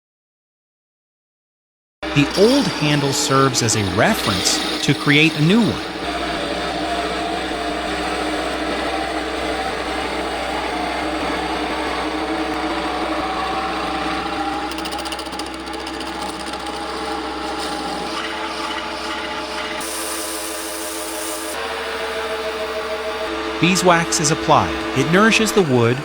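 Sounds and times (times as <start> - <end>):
power tool motor running: 2.0 - 26.0.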